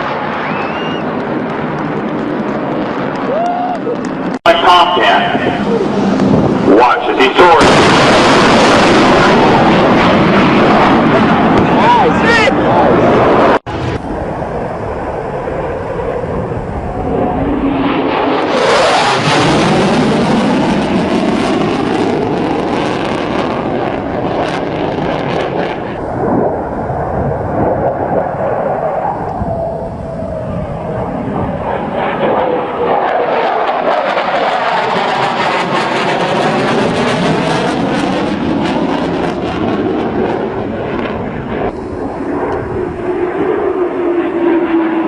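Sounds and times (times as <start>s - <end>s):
jet fighter flyby: 0.0s - 45.0s.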